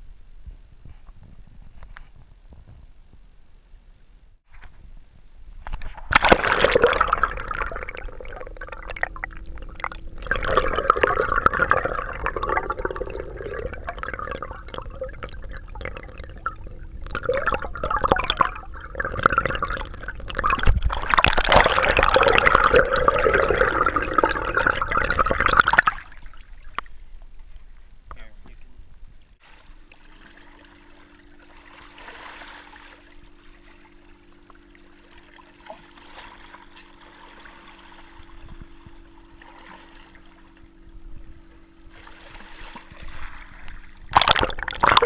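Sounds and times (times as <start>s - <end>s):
muffled underwater river rushing: 4.4s - 45.0s.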